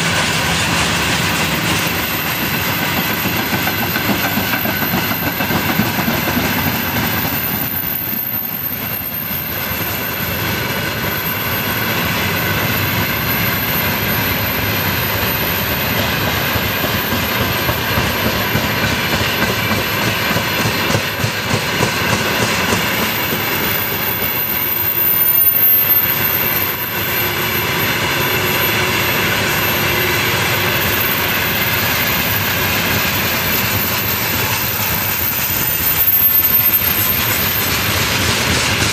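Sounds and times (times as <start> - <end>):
train rail and engine rumble: 0.0 - 38.9.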